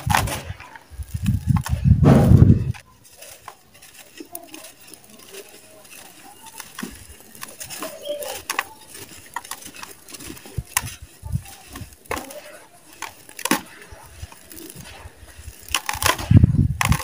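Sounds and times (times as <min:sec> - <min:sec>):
dry soil crumbling between hands: 0:00.0 - 0:17.0
soil trickling into plastic tub: 0:02.8 - 0:17.0.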